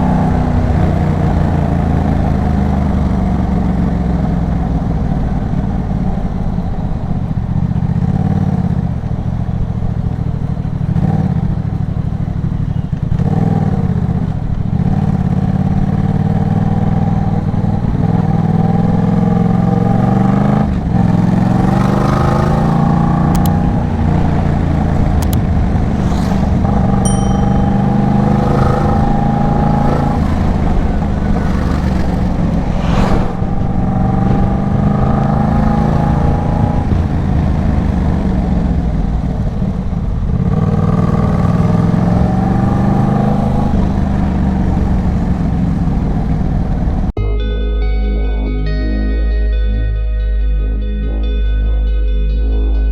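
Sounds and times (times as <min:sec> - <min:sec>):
motorcycle engine revving: 0:00.0 - 0:47.2.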